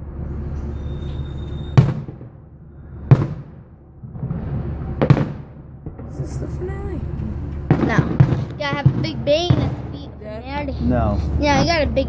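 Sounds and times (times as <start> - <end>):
fireworks booming: 0.0 - 12.0
steady low hum: 0.0 - 12.0.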